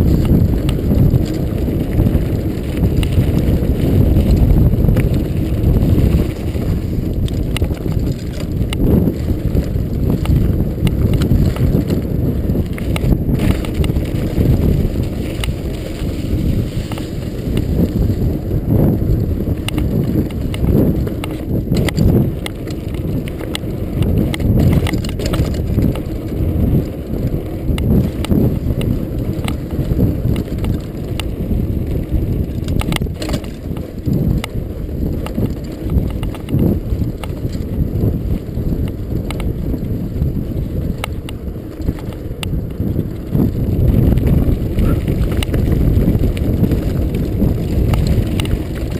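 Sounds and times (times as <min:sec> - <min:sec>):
bike clicking and rattling: 0:00.0 - 0:48.9
tyres rumbling on dirt: 0:00.0 - 0:48.9.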